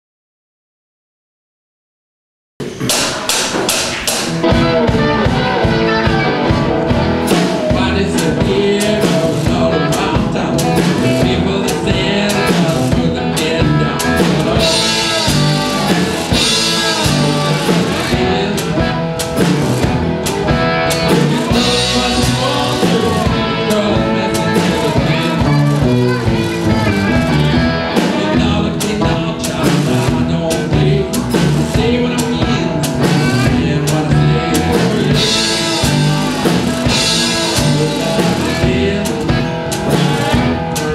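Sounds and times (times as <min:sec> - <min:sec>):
drum kit steady beat: 0:02.6 - 0:40.9
blues-rock band playing: 0:02.7 - 0:40.9
cigar box guitars: 0:02.8 - 0:40.9.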